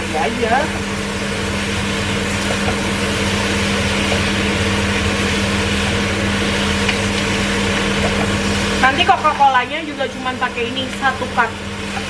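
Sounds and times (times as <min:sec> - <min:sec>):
food sizzling in a wok: 0:00.0 - 0:12.0
steady low hum: 0:00.0 - 0:12.0.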